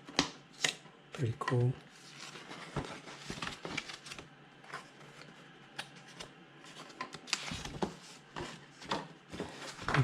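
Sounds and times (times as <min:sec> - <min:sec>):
paper pages rustling: 0:01.9 - 0:10.0.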